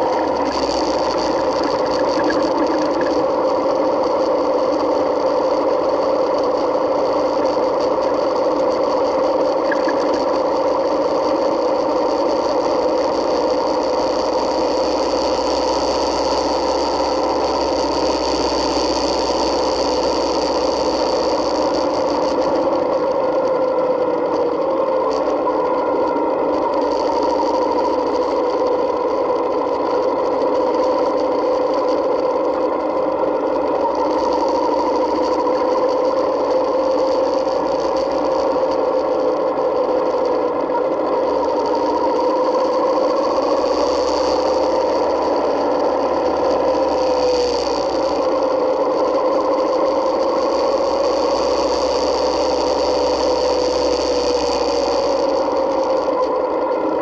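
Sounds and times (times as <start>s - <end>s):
thin high whine: 0.0s - 57.0s.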